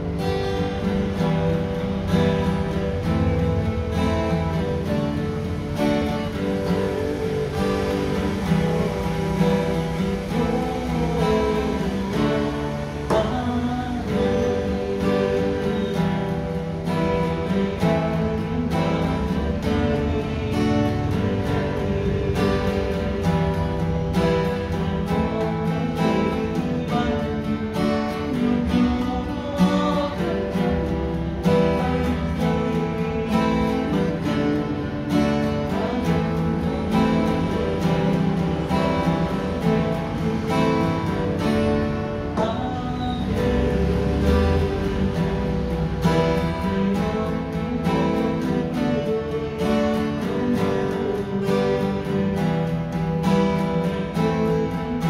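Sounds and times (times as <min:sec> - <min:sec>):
acoustic guitars strumming: 0:00.0 - 0:55.0.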